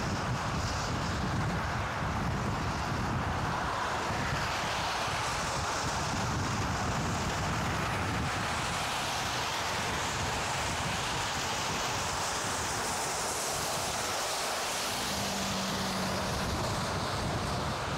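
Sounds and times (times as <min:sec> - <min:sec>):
bicycle tyre hiss on wet path: 0:00.0 - 0:17.9
wind rushing over microphone: 0:00.0 - 0:17.9.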